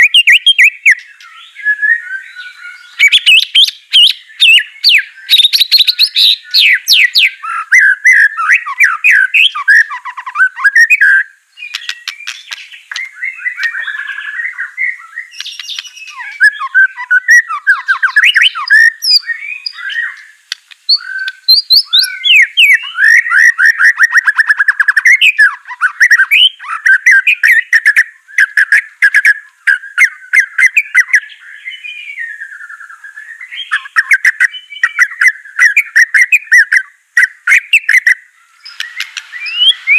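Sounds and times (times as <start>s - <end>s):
songbird singing trills and whistles: 0.0s - 39.9s.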